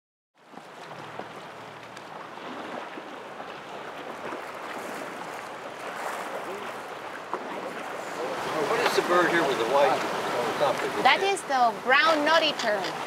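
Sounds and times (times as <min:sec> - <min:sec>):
sea water: 0:00.4 - 0:13.0.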